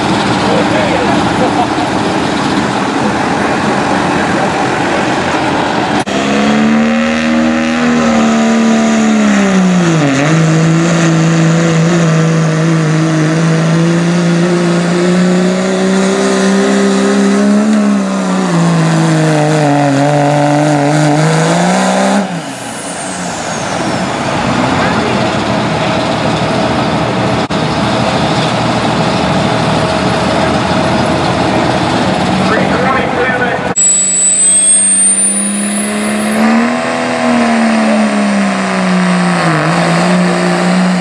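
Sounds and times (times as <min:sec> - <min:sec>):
diesel truck engine at full throttle: 0:00.0 - 0:41.0.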